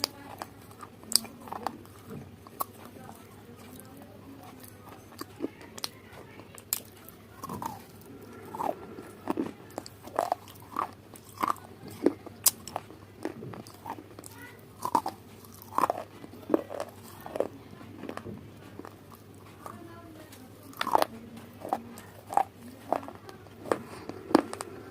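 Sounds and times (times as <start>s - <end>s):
crunchy food being chewed: 0.0s - 24.9s.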